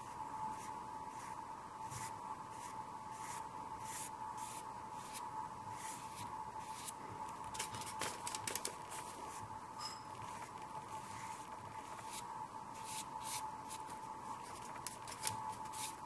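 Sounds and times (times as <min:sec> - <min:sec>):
paintbrush swishing on paper: 0:00.0 - 0:07.0, 0:08.9 - 0:09.5, 0:10.2 - 0:16.0
faint high hum: 0:00.0 - 0:16.0.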